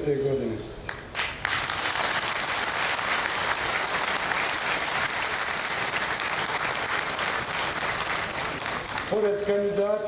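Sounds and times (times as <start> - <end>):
crowd applauding: 0.9 - 9.8.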